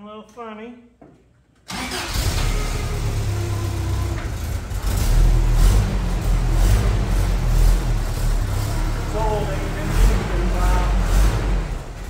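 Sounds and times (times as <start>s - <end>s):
engine running unevenly: 2.0s - 12.0s.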